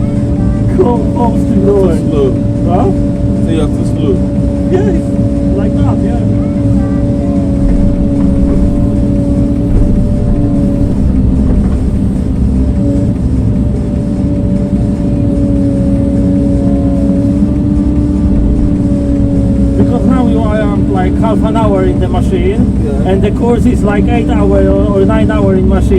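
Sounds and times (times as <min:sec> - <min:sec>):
heavy machine engine rumbling: 0:00.0 - 0:25.9.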